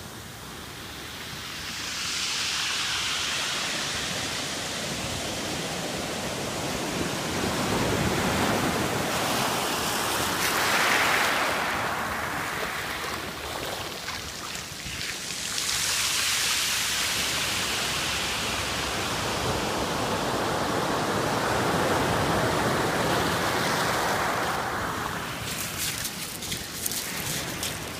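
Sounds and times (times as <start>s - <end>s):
ocean waves breaking: 0.9s - 27.9s.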